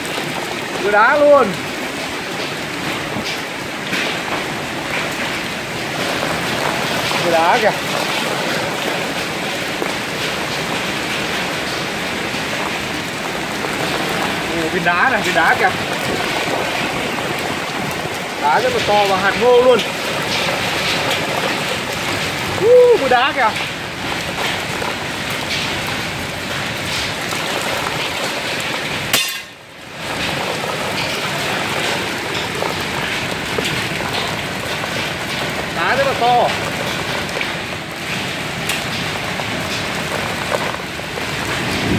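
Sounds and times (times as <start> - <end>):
heavy rain and hail on pavement: 0.0 - 41.9.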